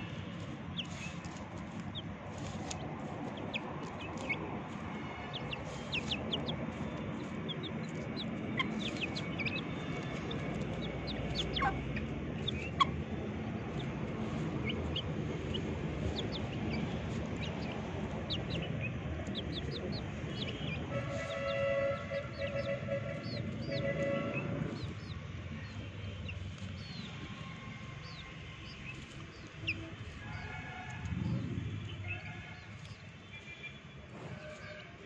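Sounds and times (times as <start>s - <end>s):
chicks peeping: 0.0s - 33.5s.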